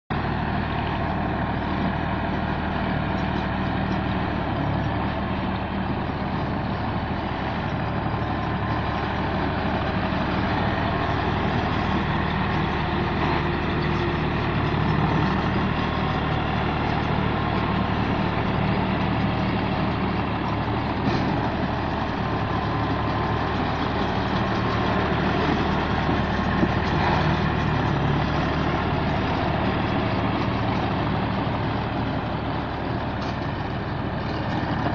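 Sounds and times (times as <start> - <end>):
baler engine humming: 0.1 - 34.9.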